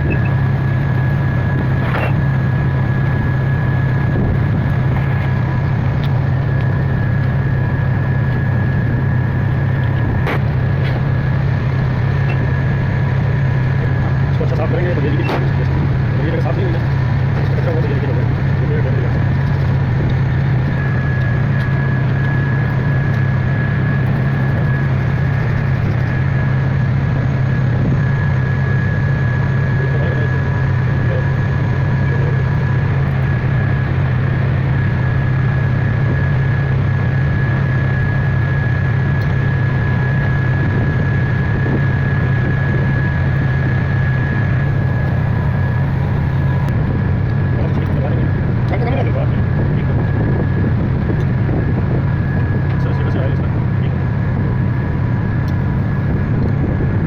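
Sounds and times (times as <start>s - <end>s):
diesel engine running: 0.0s - 57.0s
high engine whine: 0.0s - 57.0s.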